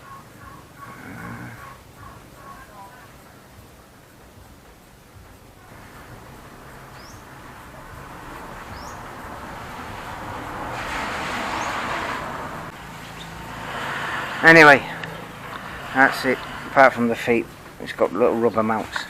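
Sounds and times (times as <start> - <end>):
small bird chirping: 0.0 - 10.2, 12.8 - 18.9
vehicle passing: 0.0 - 19.0.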